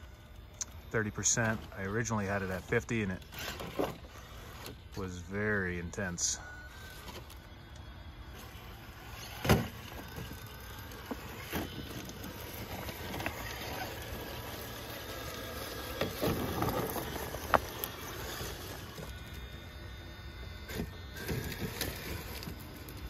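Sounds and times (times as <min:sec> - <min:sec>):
tyres scraping and crunching on rocks: 0:00.0 - 0:23.0.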